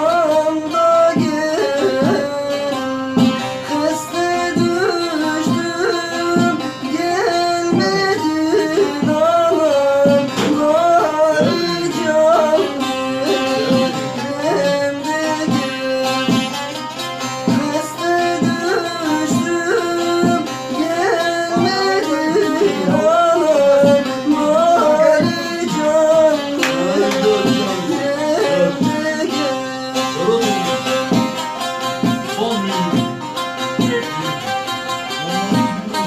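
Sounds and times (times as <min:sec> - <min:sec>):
hand drum rhythm: 0:00.0 - 0:36.0
string melody: 0:00.0 - 0:36.0.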